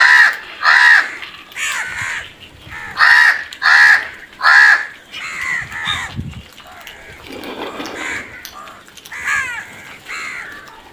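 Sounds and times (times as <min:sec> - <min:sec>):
crows cawing: 0:00.0 - 0:10.9.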